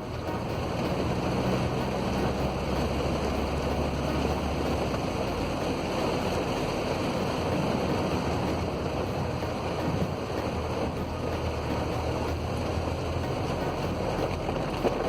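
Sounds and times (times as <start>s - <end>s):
heavy rain: 0.0s - 15.0s
low hum: 0.0s - 15.0s
wind noise: 0.0s - 15.0s.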